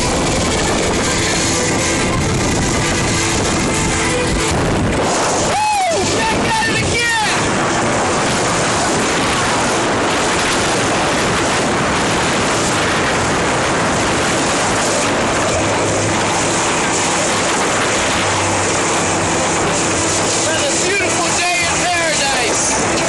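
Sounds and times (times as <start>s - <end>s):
boat engine hum: 0.0s - 23.0s
water streaming past boat: 0.0s - 23.0s
wind on microphone: 0.0s - 23.0s.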